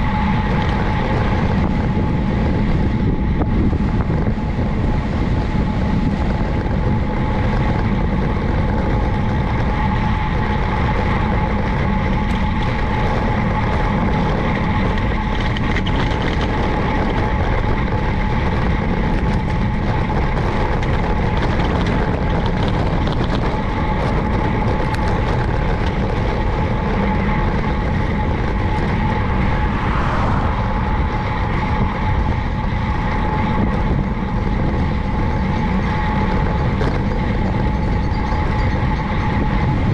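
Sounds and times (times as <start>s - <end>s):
bicycle tyre noise on road: 0.0s - 39.9s
thin whine: 0.0s - 39.9s
wind rushing over microphone: 0.0s - 39.9s.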